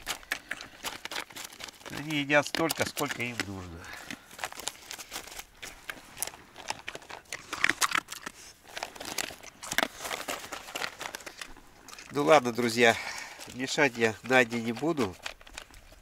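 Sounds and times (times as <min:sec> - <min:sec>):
dog crunching dry kibble: 0:00.0 - 0:16.0.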